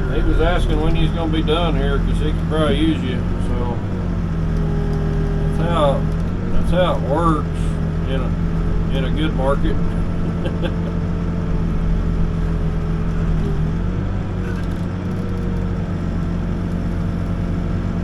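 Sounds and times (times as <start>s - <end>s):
backhoe diesel engine running: 0.0s - 18.0s.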